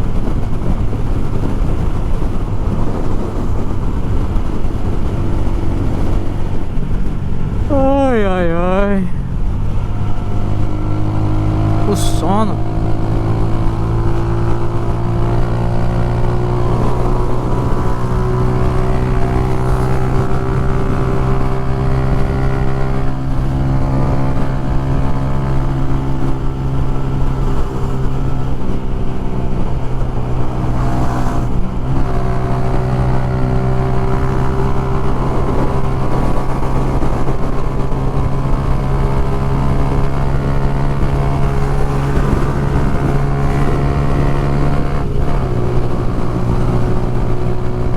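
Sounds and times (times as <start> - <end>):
motorcycle engine cruising: 0.0 - 47.9
wind noise on microphone: 0.0 - 47.9.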